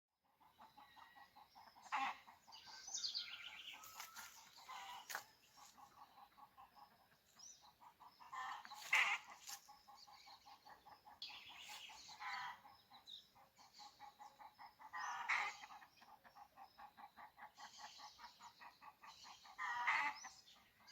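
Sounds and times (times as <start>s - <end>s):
birds calling: 0.3s - 20.9s
chickens calling: 0.3s - 20.9s.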